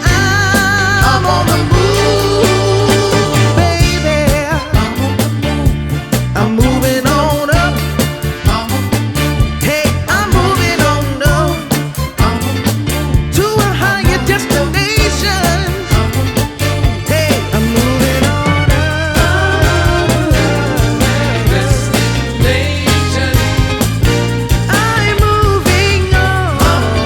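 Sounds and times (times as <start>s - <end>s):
upbeat song with singing: 0.0s - 27.0s.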